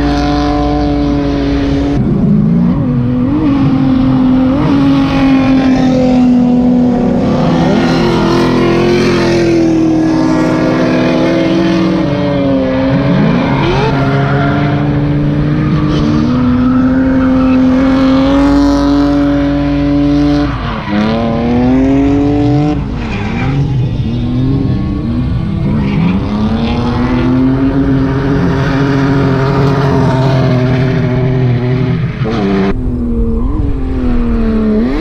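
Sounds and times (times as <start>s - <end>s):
car engines at high revs: 0.0s - 35.0s.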